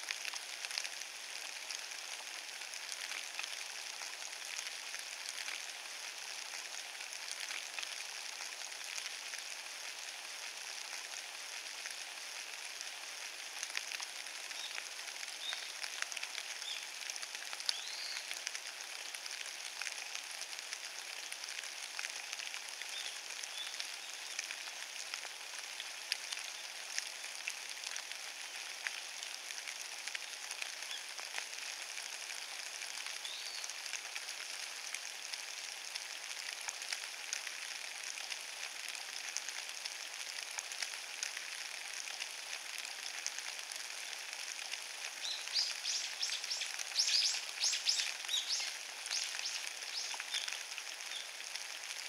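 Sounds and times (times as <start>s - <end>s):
rain falling on leaves: 0.0s - 52.0s.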